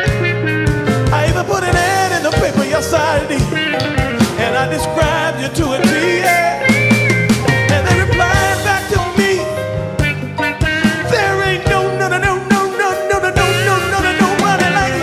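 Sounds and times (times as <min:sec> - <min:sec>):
bass guitar: 0:00.0 - 0:15.0
drum kit: 0:00.0 - 0:15.0
electric guitar: 0:00.0 - 0:15.0
male lead vocal: 0:01.0 - 0:15.0.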